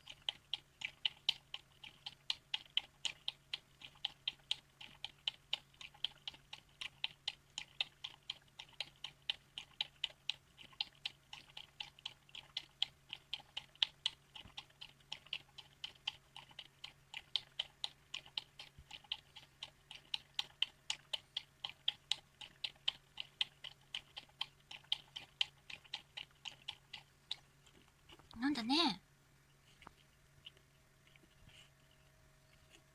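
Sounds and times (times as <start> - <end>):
dog lapping wet clicks: 0.0 - 28.4.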